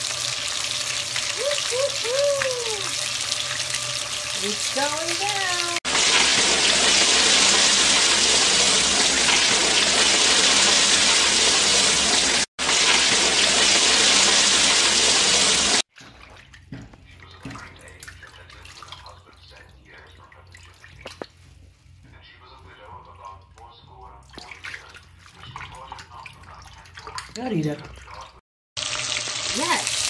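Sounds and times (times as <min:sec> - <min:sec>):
water splashing and dripping: 0:00.0 - 0:21.4, 0:24.3 - 0:30.0.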